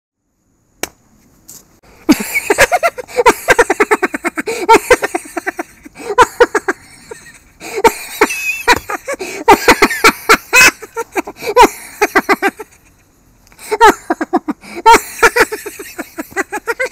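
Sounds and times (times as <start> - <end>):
man cackling laughter: 2.1 - 13.0, 13.6 - 16.9.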